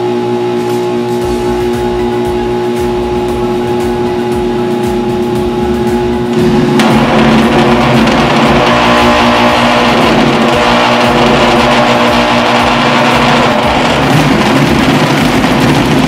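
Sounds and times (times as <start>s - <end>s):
blender motor churning: 0.0s - 16.0s.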